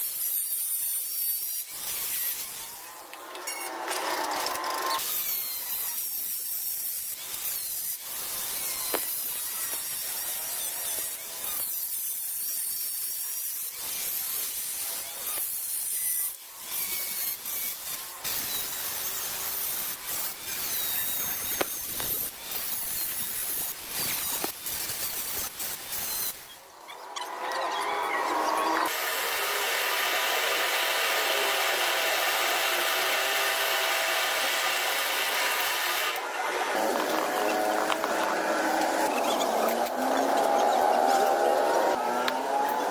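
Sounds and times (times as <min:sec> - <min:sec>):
power tool working metal: 0:00.0 - 0:26.6, 0:27.4 - 0:42.9.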